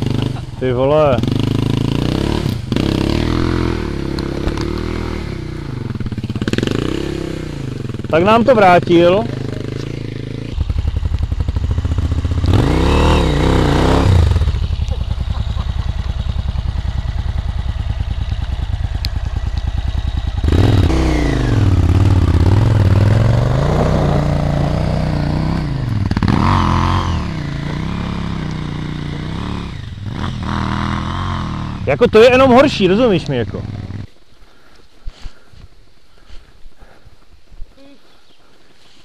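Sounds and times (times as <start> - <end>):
motorcycle engine revving: 0.0 - 34.2.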